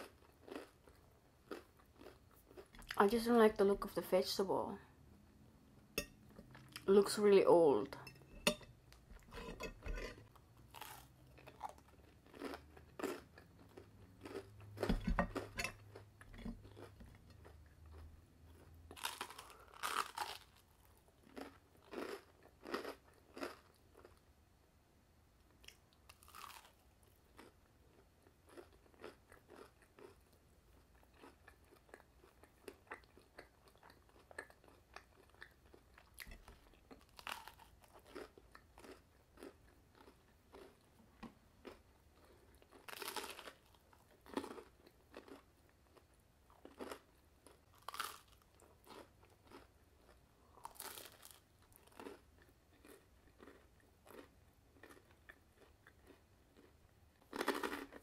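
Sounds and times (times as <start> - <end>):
person chewing crunchy bread: 0.0 - 3.0, 5.8 - 6.9, 8.2 - 24.3, 25.6 - 58.0.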